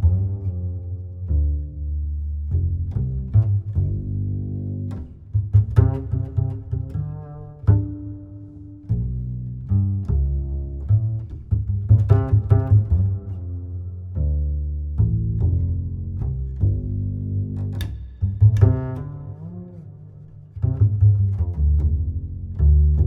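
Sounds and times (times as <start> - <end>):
instrumental music with deep notes: 0.0 - 23.0.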